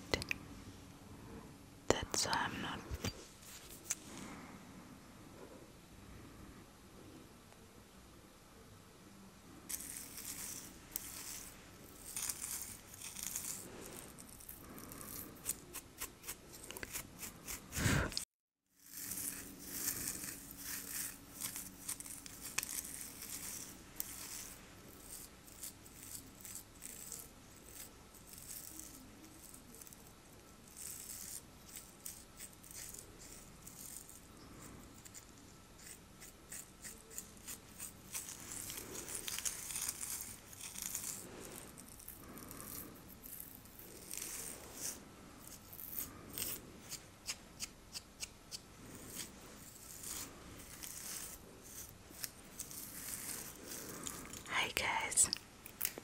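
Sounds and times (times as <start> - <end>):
nails scratching beard stubble: 9.7 - 18.2, 18.8 - 56.0.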